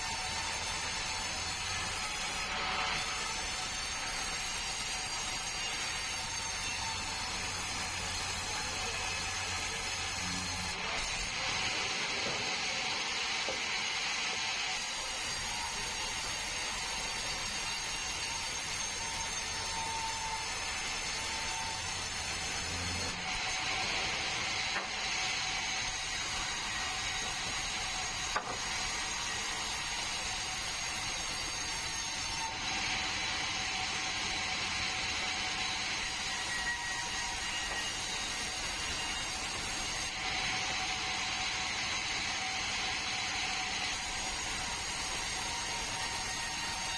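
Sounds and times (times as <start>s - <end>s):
saw rasping through log: 0.0s - 46.9s
sawmill saw whine: 0.0s - 46.9s.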